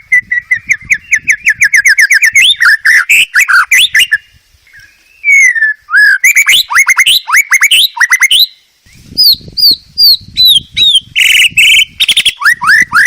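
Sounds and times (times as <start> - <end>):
songbird whistling song: 0.0 - 13.0.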